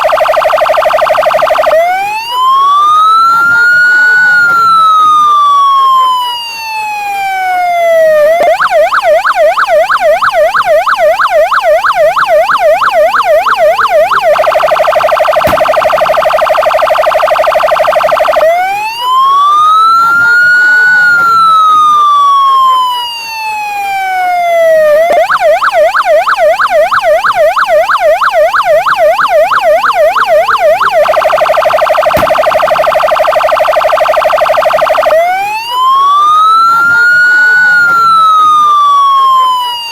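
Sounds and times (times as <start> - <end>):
police siren wailing and yelping: 0.0 - 39.9.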